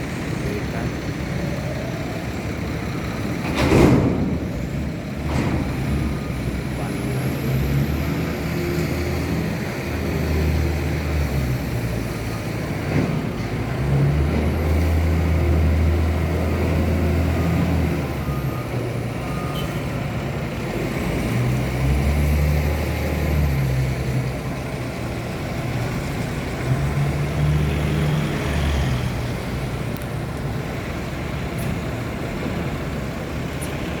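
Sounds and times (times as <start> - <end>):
heavy truck engine droning: 0.0 - 34.0.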